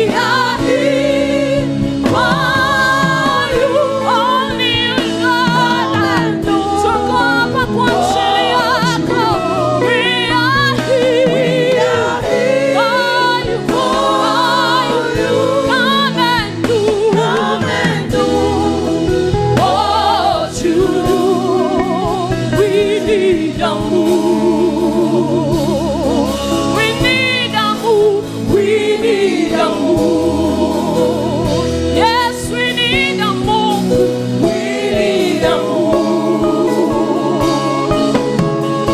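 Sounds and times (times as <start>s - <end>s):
choir singing gospel: 0.0s - 38.9s
instrumental backing: 0.0s - 38.9s.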